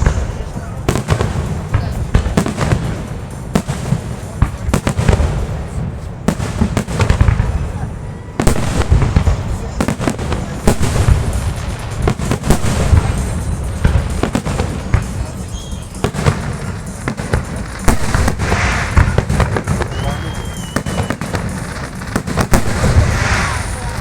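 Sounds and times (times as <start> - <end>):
fireworks bangs and pops: 0.0 - 24.0.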